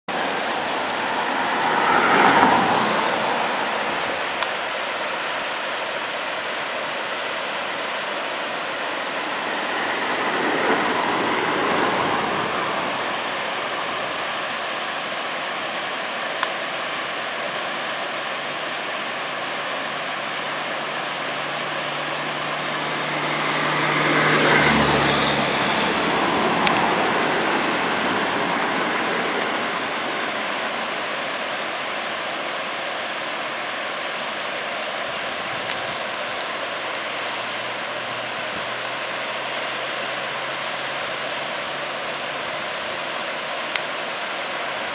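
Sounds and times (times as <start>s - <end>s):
vehicles passing: 0.0s - 44.9s
low engine hum: 0.1s - 44.9s
outdoor rushing noise: 0.1s - 44.9s.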